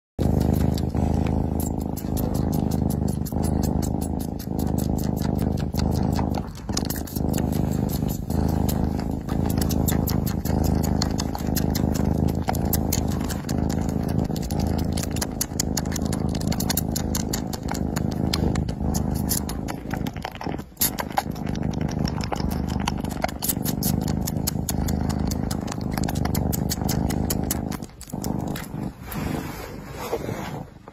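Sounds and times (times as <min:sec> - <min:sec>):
kitten purring: 0:00.2 - 0:30.9
wet sucking clicks: 0:00.2 - 0:30.9.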